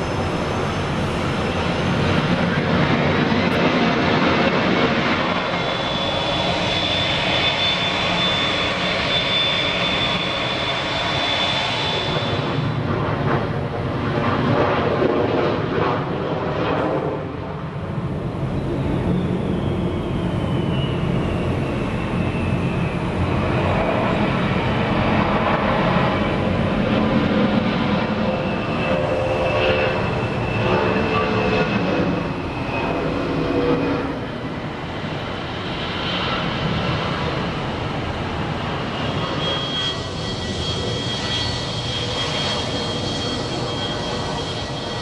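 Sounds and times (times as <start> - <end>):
jet engine takeoff roar: 0.0 - 45.0
jet engine whine: 0.0 - 45.0.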